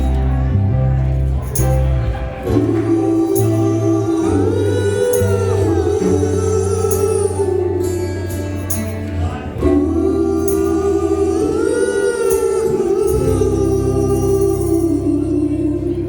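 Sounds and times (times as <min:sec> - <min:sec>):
acoustic instruments: 0:00.0 - 0:16.0
voices singing held notes: 0:00.0 - 0:16.0.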